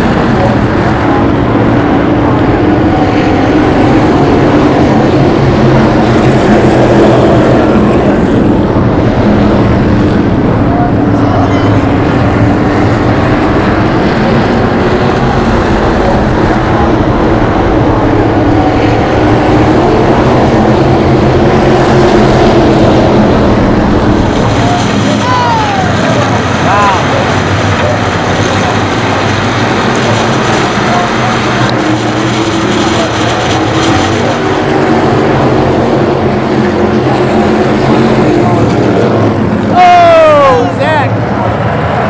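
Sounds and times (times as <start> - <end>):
race car engine drone: 0.0 - 42.0
wind noise: 0.0 - 42.0.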